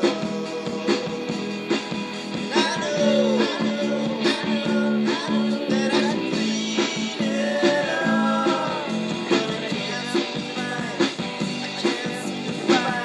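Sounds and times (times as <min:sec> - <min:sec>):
person singing: 0:00.0 - 0:01.7, 0:02.5 - 0:13.0
rock song through boombox: 0:00.0 - 0:13.0.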